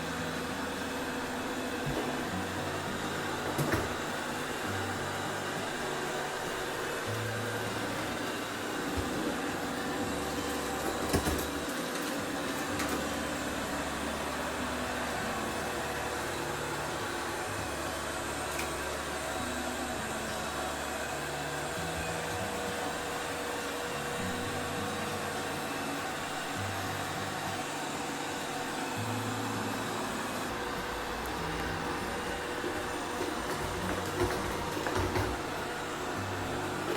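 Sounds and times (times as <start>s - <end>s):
robot vacuum cleaner hissing: 0.0s - 36.9s.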